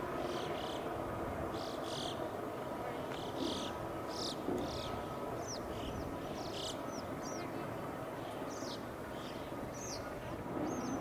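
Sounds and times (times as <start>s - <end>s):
birds calling: 0.1s - 2.4s, 3.0s - 11.0s.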